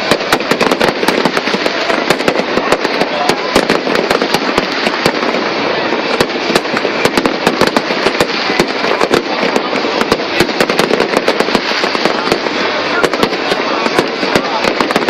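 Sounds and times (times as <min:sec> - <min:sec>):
fireworks cracking and popping: 0:00.0 - 0:15.0
fireworks crackle: 0:00.0 - 0:15.0.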